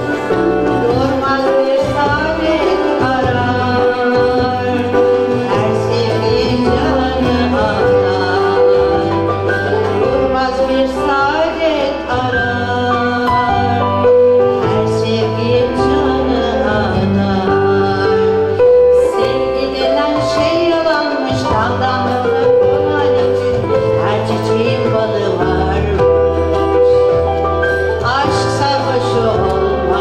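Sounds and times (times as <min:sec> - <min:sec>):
instrumental ensemble accompanying: 0:00.0 - 0:30.0
woman singing: 0:00.0 - 0:30.0.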